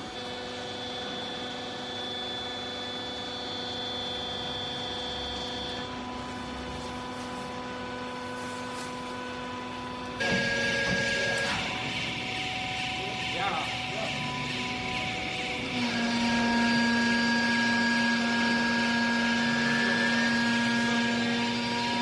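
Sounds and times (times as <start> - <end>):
electric motor and pump humming: 0.0 - 22.0.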